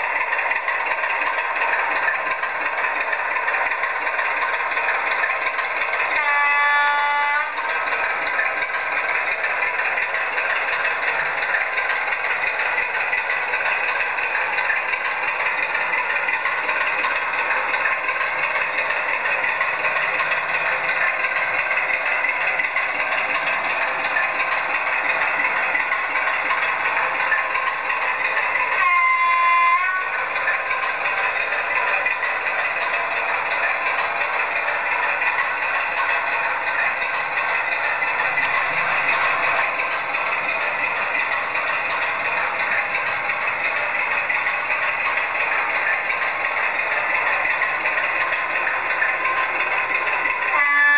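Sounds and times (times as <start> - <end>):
model train running on track: 0.0 - 50.9
tinny diesel engine sound from speaker: 0.0 - 50.9.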